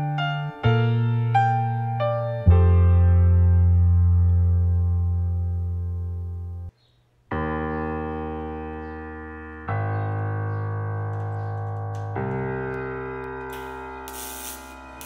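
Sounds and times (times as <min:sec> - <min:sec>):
sustained keyboard chords: 0:00.0 - 0:06.7, 0:07.3 - 0:15.0.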